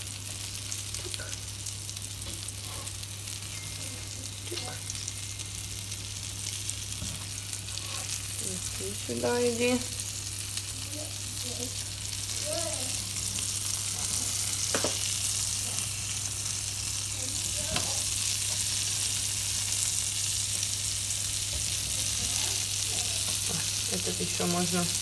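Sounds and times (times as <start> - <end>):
pancakes sizzling in a frying pan: 0.0 - 25.0.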